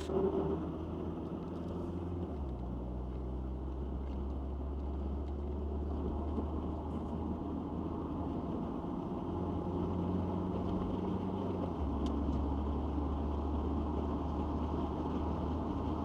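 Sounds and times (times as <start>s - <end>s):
car engine drone: 0.0s - 16.0s
road noise: 0.0s - 16.0s.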